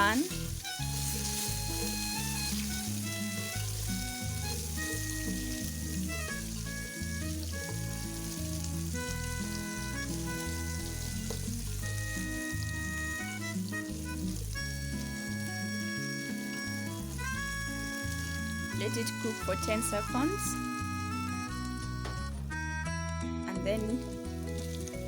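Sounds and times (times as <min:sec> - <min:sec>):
meat sizzling in hot oil: 0:00.0 - 0:22.6, 0:23.8 - 0:25.0
background music with bass line: 0:00.0 - 0:25.0.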